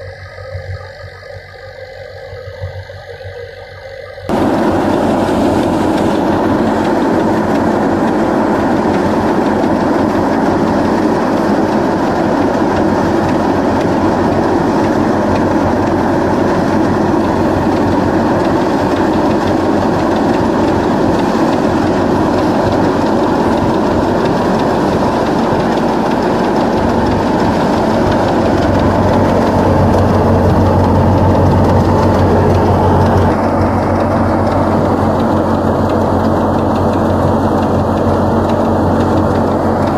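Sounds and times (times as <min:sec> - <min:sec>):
tractor engine drone: 0:00.0 - 0:39.9
thresher clatter and whir: 0:04.3 - 0:39.9.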